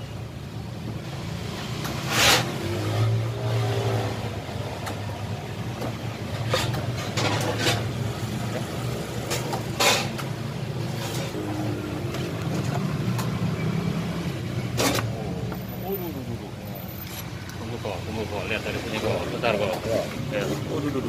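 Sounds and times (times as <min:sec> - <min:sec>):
traffic engines humming: 0:00.0 - 0:21.0
passing vehicles hissing: 0:01.0 - 0:21.0.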